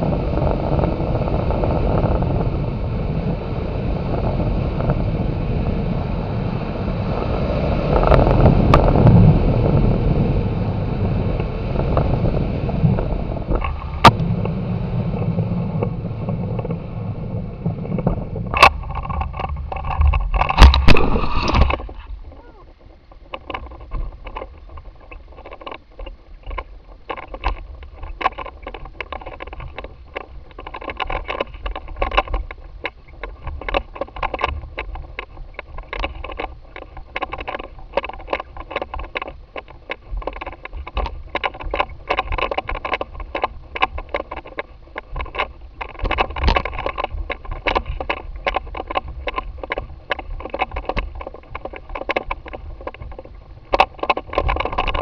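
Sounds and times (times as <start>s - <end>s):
wind rumble on microphone: 0.0s - 55.0s
crackling and rattling: 7.2s - 10.2s, 11.0s - 55.0s.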